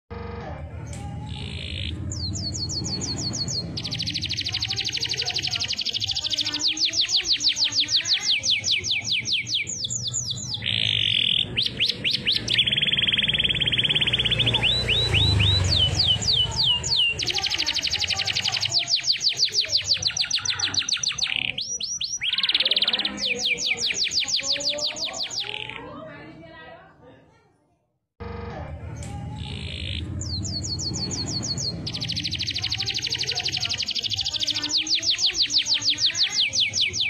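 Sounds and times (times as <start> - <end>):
canary singing: 0.1 - 26.1, 28.2 - 37.0.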